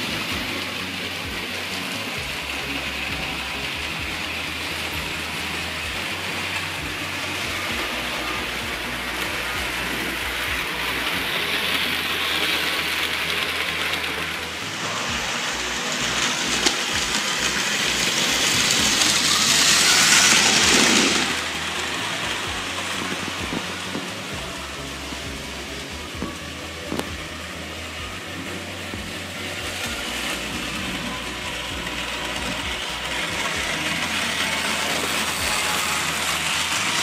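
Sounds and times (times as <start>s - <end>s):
model train motor whirr: 0.0s - 37.0s
model train rolling rattle: 0.0s - 37.0s.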